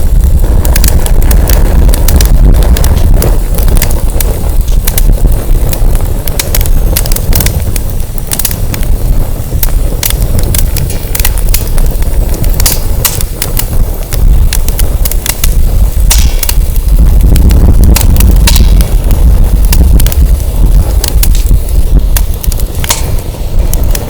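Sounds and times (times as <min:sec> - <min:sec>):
firewood crackling and popping: 0:00.0 - 0:24.0
wind buffeting microphone: 0:00.0 - 0:24.0.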